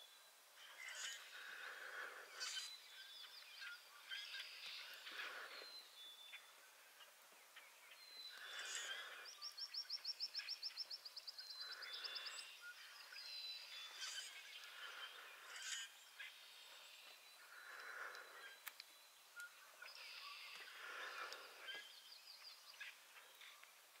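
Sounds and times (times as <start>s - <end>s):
faint marsh ambience: 0.0s - 24.0s.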